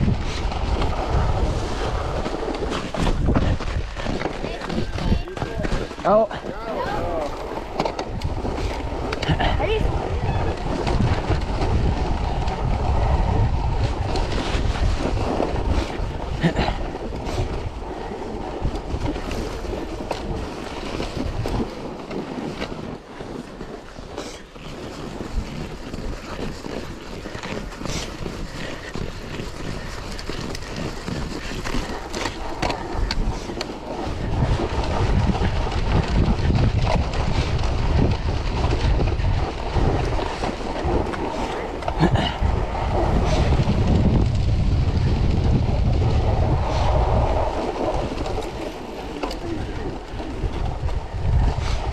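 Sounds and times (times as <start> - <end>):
bike tyres rolling on snow: 0.0 - 51.9
wind buffeting microphone: 0.0 - 51.9.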